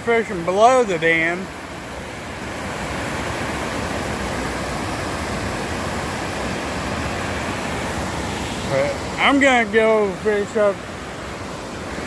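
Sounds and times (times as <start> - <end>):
water rushing over a dam: 0.0 - 12.0.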